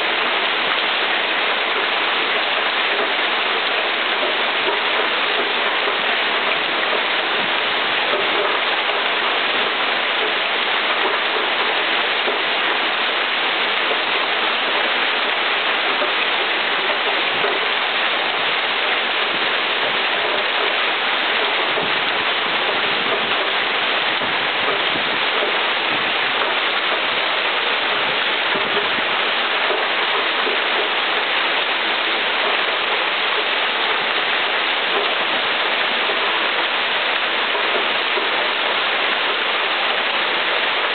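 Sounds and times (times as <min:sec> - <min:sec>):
heavy rain and hail: 0:00.0 - 0:40.9.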